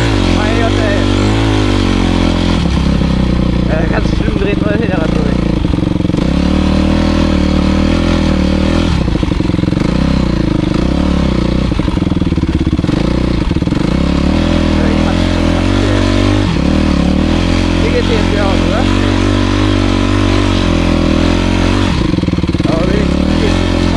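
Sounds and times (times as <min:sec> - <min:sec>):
motocross bike engine revving: 0:00.0 - 0:23.9.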